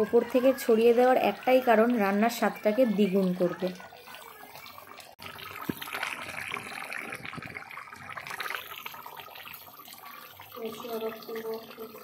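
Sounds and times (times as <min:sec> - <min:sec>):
gravy bubbling: 0:00.0 - 0:12.0.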